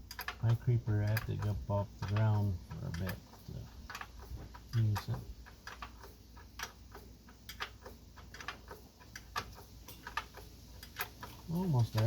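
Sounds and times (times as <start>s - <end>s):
wrench clicking on metal bolt: 0.0s - 12.0s.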